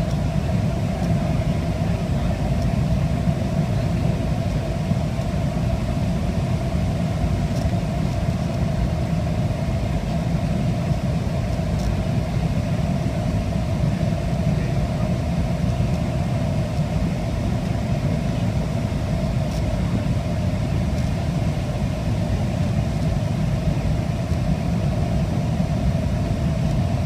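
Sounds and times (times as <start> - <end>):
airliner cabin rumble: 0.0 - 27.0
steady hum: 0.0 - 27.0.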